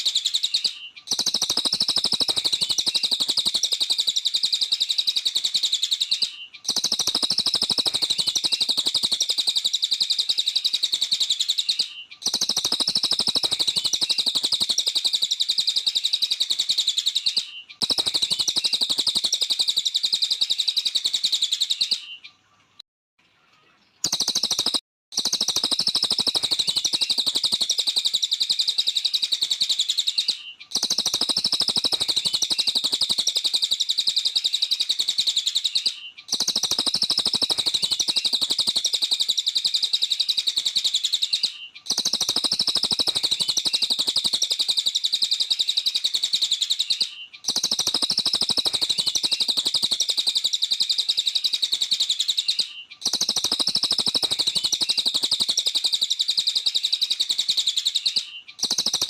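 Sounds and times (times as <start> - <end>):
songbird singing rapid chirps: 0.0 - 59.0.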